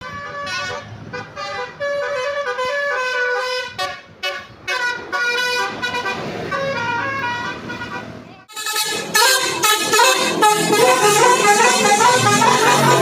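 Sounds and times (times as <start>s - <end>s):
bus engine running: 0.0s - 13.0s
multi-note musical bus horn: 0.0s - 13.0s.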